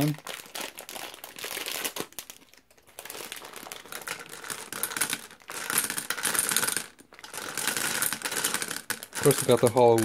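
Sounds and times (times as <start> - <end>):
candies rattling against glass: 0.0 - 10.0
plastic bag crinkling: 0.0 - 10.0.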